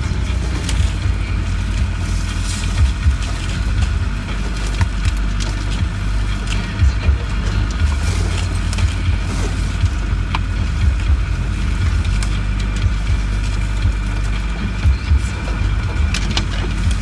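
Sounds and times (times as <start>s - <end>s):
diesel engine running: 0.0s - 17.0s
sharp clicks and knocks: 0.0s - 17.0s.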